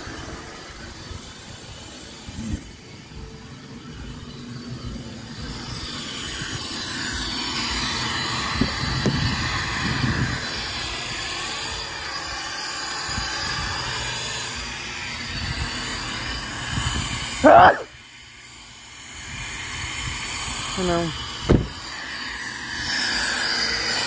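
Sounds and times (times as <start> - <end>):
shop vac running: 0.0 - 24.0.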